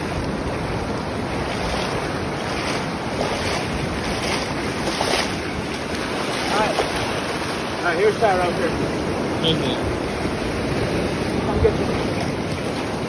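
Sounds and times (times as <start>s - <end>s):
surf washing over shallow water: 0.0s - 13.0s
wind rumbling on microphone: 0.0s - 13.0s.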